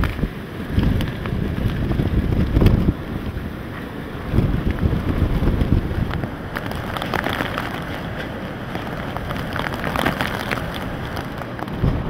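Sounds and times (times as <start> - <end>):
heavy wind-driven rain: 0.0 - 12.0
wind rumble on microphone: 0.0 - 12.0.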